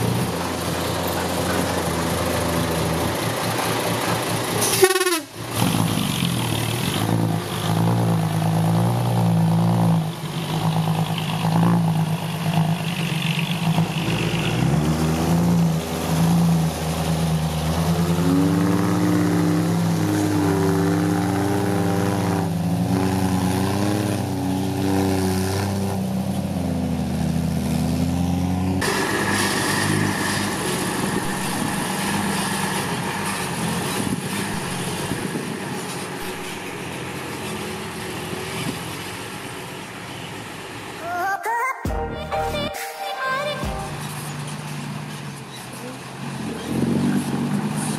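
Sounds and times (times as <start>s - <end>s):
truck engine running and revving: 0.0s - 41.0s, 43.7s - 47.9s.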